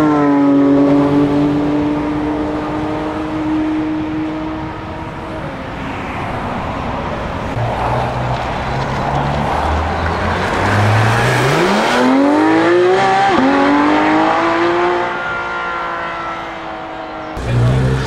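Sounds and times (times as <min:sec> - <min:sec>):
sports car driving past: 0:00.0 - 0:18.0.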